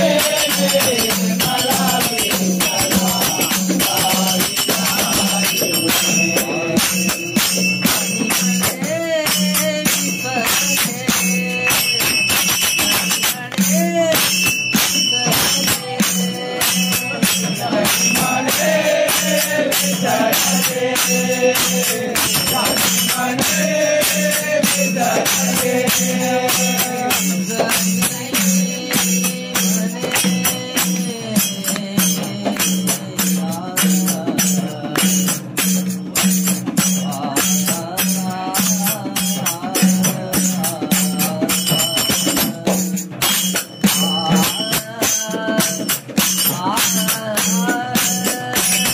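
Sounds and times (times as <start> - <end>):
group of voices singing: 0.0 - 35.6, 36.7 - 43.2, 43.8 - 48.9
jingling hand percussion: 0.0 - 48.9.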